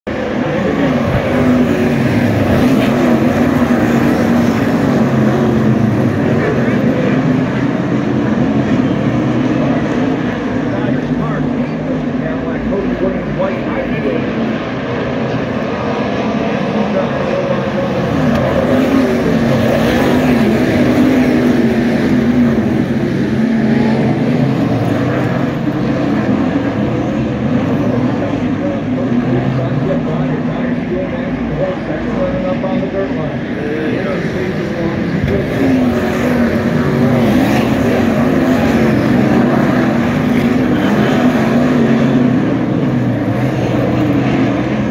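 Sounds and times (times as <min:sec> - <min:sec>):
race car engines droning: 0:00.0 - 0:44.9.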